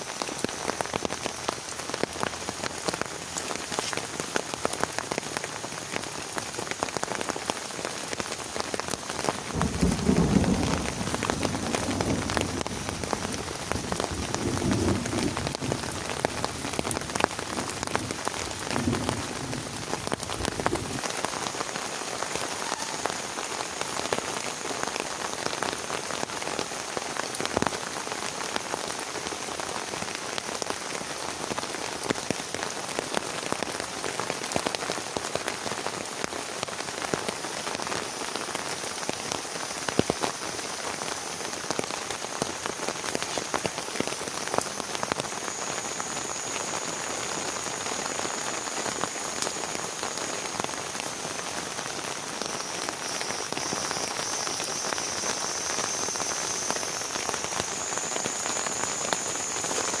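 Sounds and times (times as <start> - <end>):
heavy rain hissing: 0.0 - 60.0
raindrops hitting a surface: 0.0 - 60.0.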